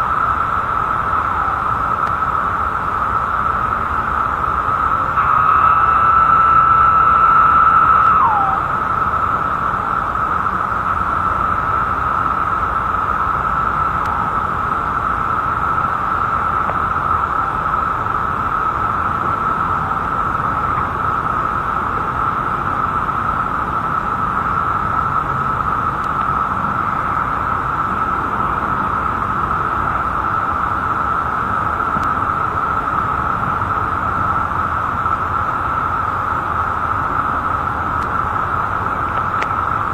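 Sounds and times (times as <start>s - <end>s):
cicada chorus drone: 0.0s - 39.9s
close cicada call: 0.0s - 39.9s.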